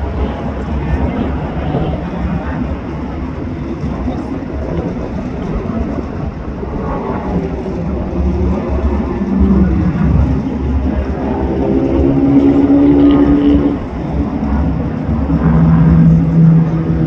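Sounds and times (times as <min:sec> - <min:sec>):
distant race car engines: 0:00.0 - 0:17.0.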